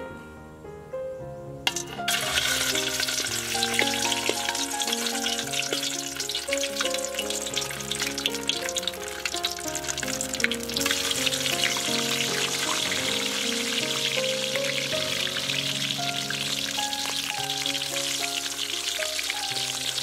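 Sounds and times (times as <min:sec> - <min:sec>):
meatballs sizzling in hot oil: 0:01.7 - 0:20.0.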